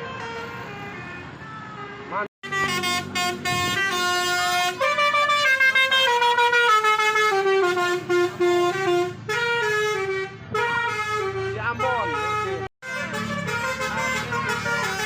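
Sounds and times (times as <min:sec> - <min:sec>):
musical horn playing a tune: 0:02.4 - 0:15.0.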